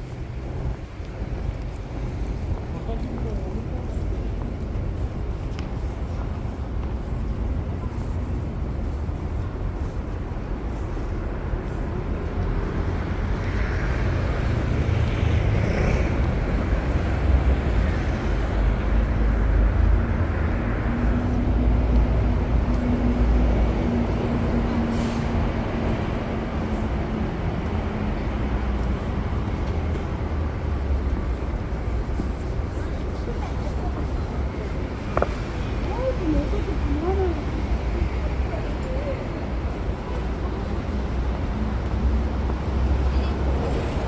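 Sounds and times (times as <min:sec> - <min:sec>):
street traffic rumble: 0:00.0 - 0:44.0.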